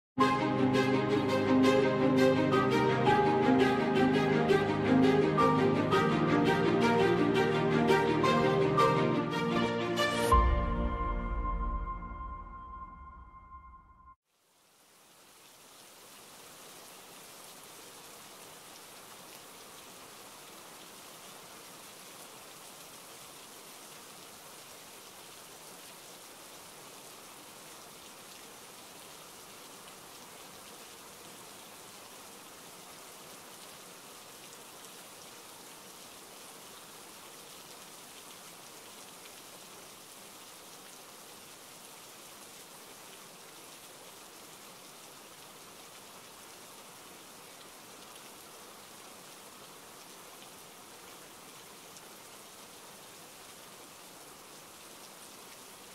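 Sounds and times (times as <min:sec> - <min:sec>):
steady rain hiss: 0:00.2 - 0:10.4, 0:14.3 - 0:55.9.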